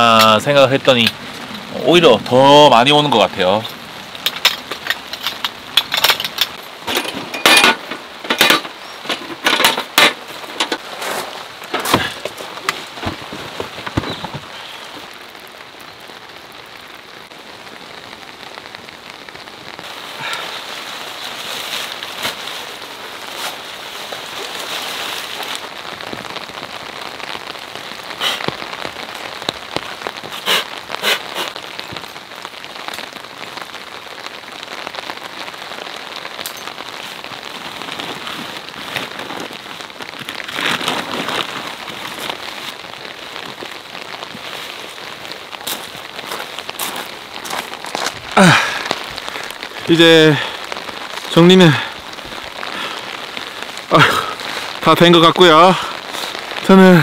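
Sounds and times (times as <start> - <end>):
loud close raindrops: 0.0 - 57.0
steady rain hiss: 0.0 - 57.0.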